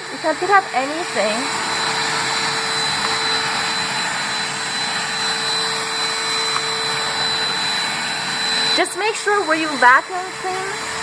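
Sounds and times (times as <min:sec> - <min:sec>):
handheld vacuum cleaner running: 0:00.0 - 0:11.0.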